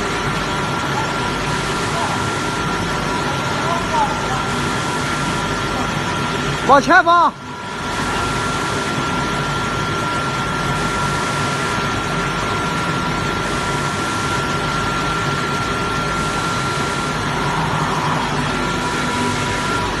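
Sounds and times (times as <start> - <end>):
high-pitched machine whine: 0.0 - 20.0
washing machine running: 0.0 - 20.0.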